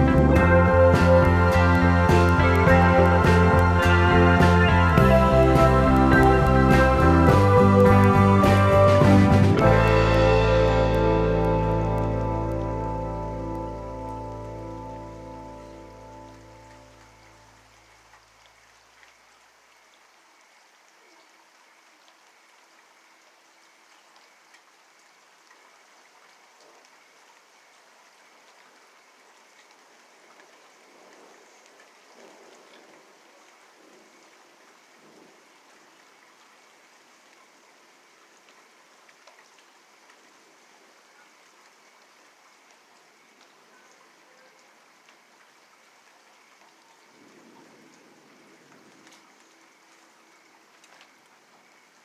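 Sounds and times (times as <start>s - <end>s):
faint steady rain: 0.0s - 52.0s.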